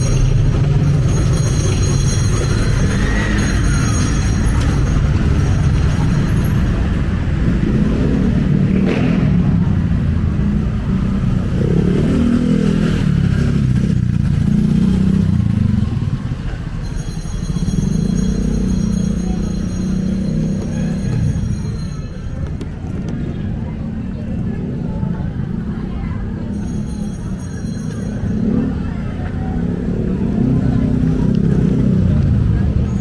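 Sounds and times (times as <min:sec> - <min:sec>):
city traffic rumble: 0:00.0 - 0:33.0
engines revving: 0:00.0 - 0:33.0.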